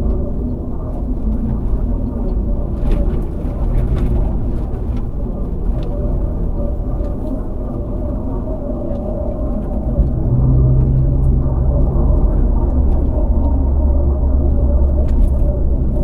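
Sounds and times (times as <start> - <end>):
deeper hum: 0.0 - 16.0
engine and road noise rumble: 0.0 - 16.0.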